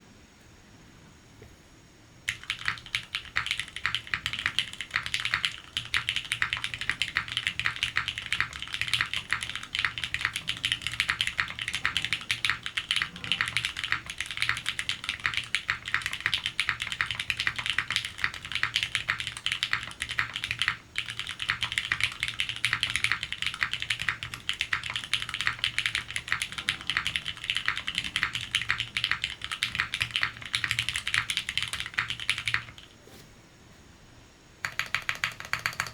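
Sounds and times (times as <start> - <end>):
fast mechanical keyboard typing: 2.3 - 32.9, 34.6 - 35.9.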